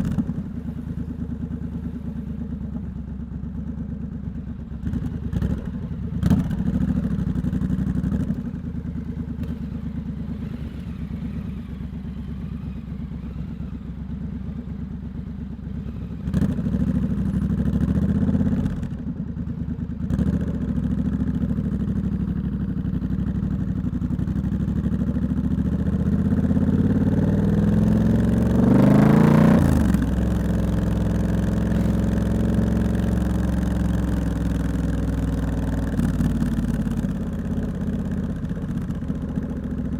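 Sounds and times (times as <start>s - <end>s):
motorcycle engine revving: 4.5s - 39.9s.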